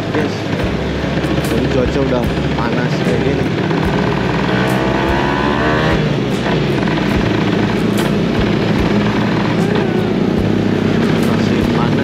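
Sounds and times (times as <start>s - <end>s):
two-stroke motorcycle engine running: 0.0s - 12.0s.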